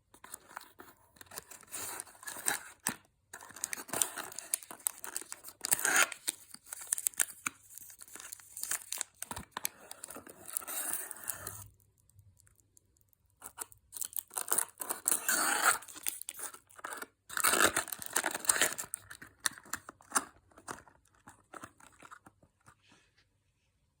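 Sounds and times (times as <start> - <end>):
candy packaging tearing and crinkling: 0.2 - 12.6, 13.4 - 22.3.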